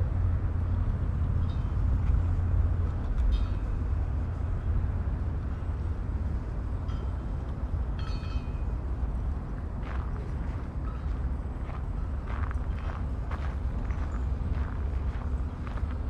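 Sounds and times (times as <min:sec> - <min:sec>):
street noise: 0:00.0 - 0:16.0
wind rumbling on microphone: 0:00.0 - 0:16.0.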